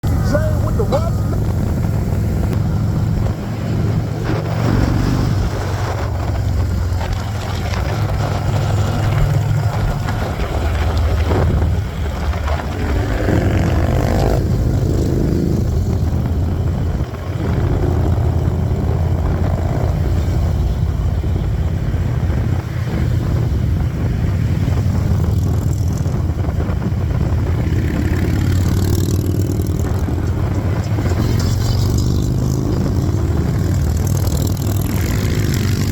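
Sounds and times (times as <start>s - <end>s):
motorcycle engines rumbling: 0.0s - 35.9s.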